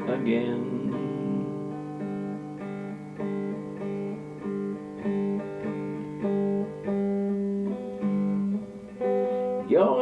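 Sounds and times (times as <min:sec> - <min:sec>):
slow picked guitar: 0:00.0 - 0:10.0.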